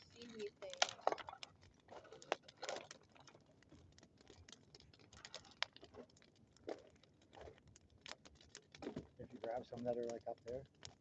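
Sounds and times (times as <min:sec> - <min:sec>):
wood bonfire crackling: 0:00.0 - 0:11.0.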